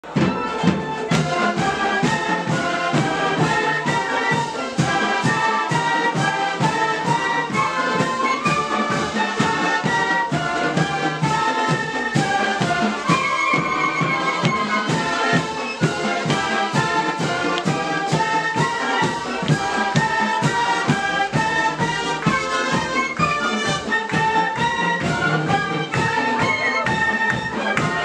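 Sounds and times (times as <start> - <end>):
brass band playing upbeat tune: 0.0 - 28.0
steady drum beat: 0.0 - 28.0.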